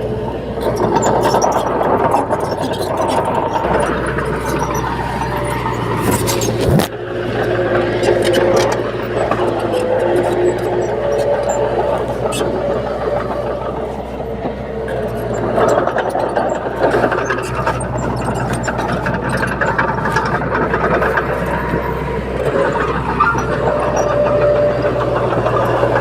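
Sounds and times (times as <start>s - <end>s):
bulldozer diesel engine humming: 0.0s - 26.0s
metallic clicks and clanks: 0.6s - 26.0s.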